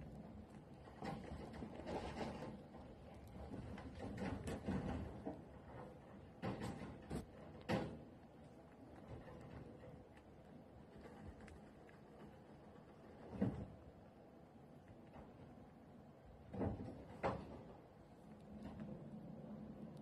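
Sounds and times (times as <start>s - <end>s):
chinchilla nibbling food: 0.0s - 20.0s.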